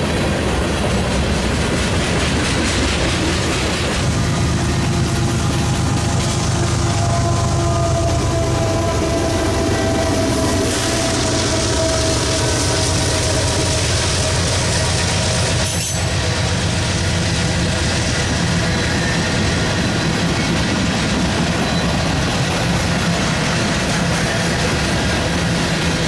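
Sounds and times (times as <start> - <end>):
diesel locomotive passing: 0.0 - 26.0
train wheels on rail: 0.0 - 26.0.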